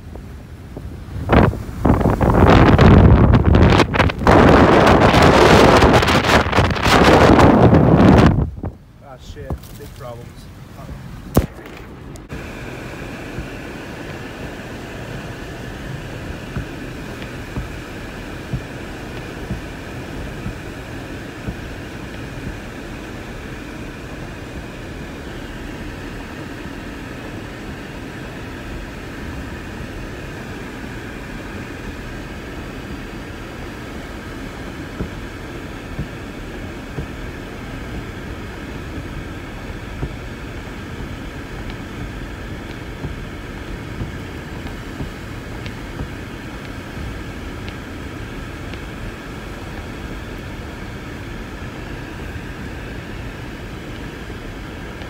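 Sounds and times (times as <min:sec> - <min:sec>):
faint wind whistling: 0:00.0 - 0:55.0
strong blizzard wind: 0:00.0 - 0:55.0.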